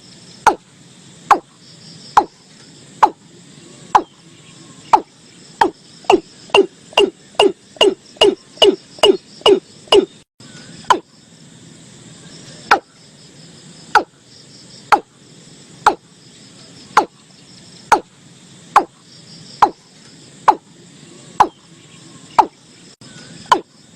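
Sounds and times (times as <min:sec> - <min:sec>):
faint insect chirring: 0:00.0 - 0:23.9.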